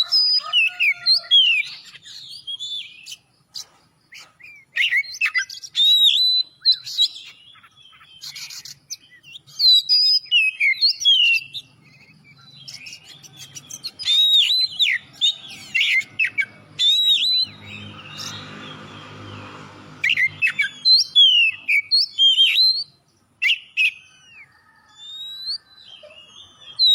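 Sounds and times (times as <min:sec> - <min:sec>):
bird singing whistled phrases: 0:00.1 - 0:03.2, 0:04.5 - 0:18.4, 0:20.0 - 0:26.9.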